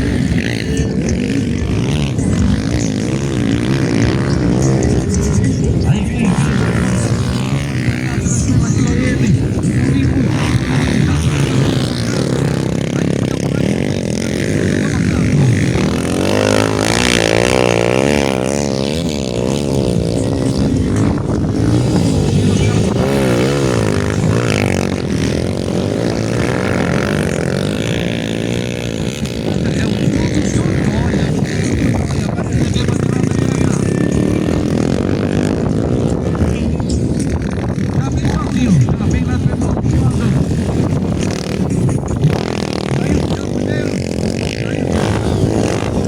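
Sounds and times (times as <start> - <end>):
motocross engines revving: 0.0 - 46.0.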